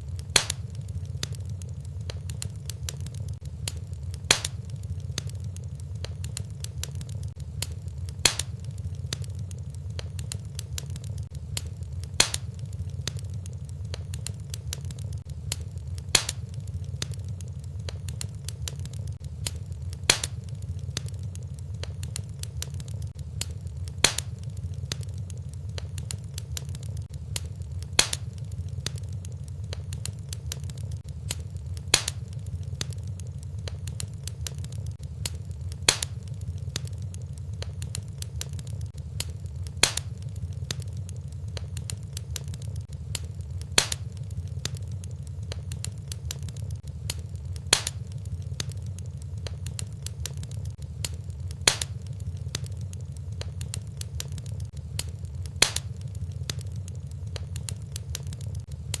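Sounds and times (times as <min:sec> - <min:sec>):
fire popping: 0:00.0 - 0:59.0
fireplace fire crackling: 0:00.0 - 0:59.0.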